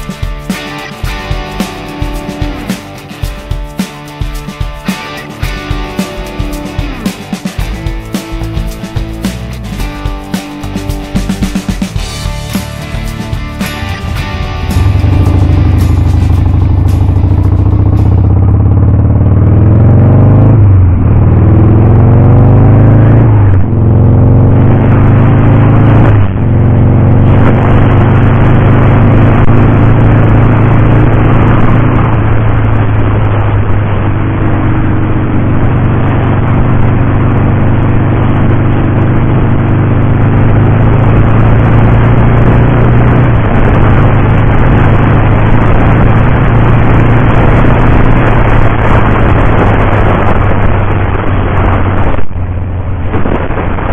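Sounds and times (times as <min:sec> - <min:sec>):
motorcycle engine accelerating: 0:00.0 - 0:53.9
wind and road noise: 0:00.0 - 0:53.9.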